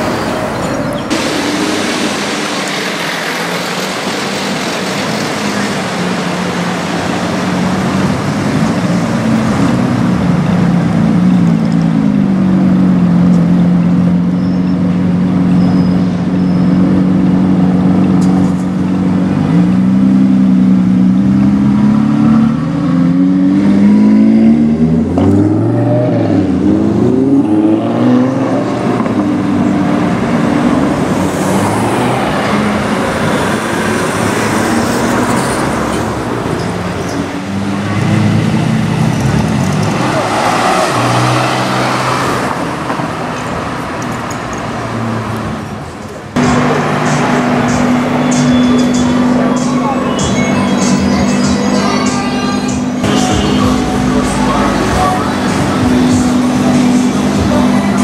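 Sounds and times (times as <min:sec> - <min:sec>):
supercar engines revving: 0:00.0 - 0:58.0
traffic noise: 0:00.0 - 0:58.0.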